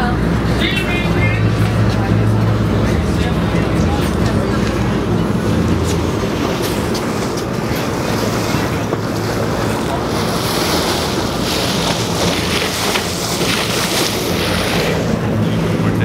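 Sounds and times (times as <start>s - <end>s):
ship engines droning: 0.0s - 16.0s
water rushing past hull: 0.0s - 16.0s.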